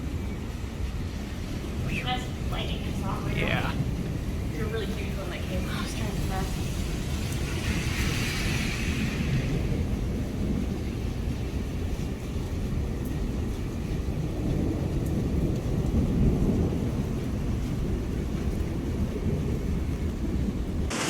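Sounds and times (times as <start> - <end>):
thunder rumbling: 0.0 - 21.0.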